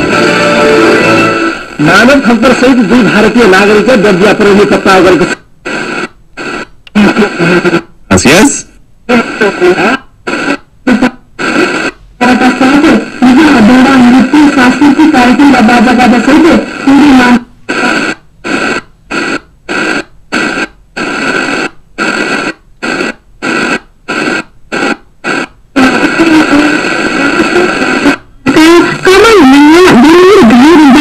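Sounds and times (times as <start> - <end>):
distant radio station audio: 0.0 - 31.0
radio static hiss: 0.0 - 31.0.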